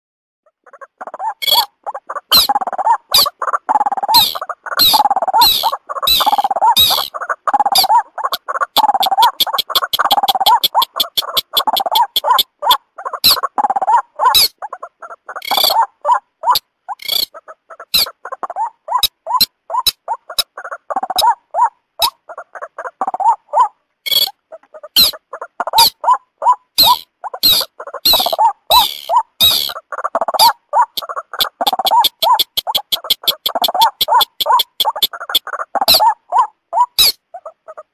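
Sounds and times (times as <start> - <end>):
bird croaking calls: 0.5 - 37.9
high quick-fire bird calls: 0.7 - 1.7, 2.3 - 14.6, 15.3 - 22.2, 23.2 - 37.5.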